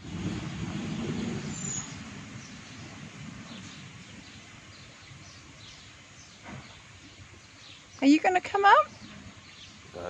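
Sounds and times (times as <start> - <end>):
quiet outdoor ambience: 0.0 - 10.0.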